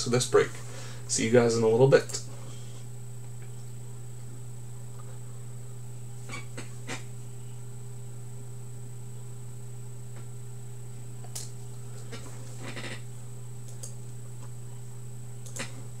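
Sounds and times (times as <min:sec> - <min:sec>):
faint high whine: 0:00.0 - 0:16.0
low hum: 0:00.0 - 0:16.0.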